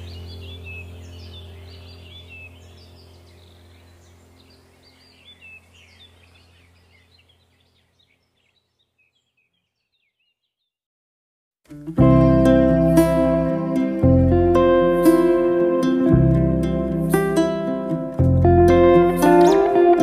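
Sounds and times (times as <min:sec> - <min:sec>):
steady low hum: 0:00.0 - 0:08.3, 0:12.0 - 0:20.0
small birds chirping: 0:00.0 - 0:10.8, 0:12.0 - 0:20.0.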